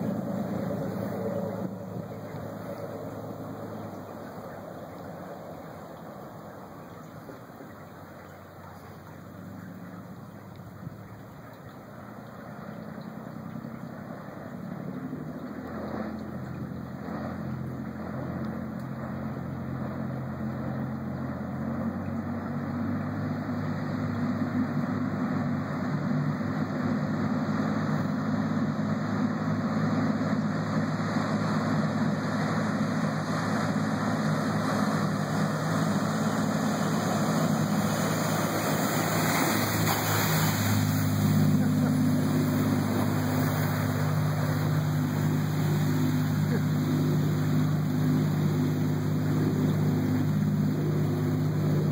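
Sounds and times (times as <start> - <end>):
boat diesel engine running hard: 0.0 - 51.9
bow spray and wake rushing: 0.0 - 51.9.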